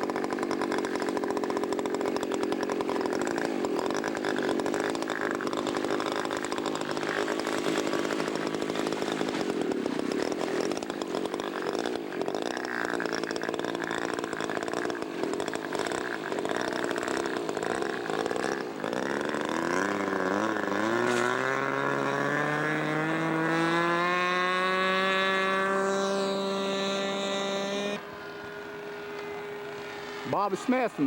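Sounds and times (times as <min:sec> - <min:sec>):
model airplane engine buzzing: 0:00.0 - 0:31.0.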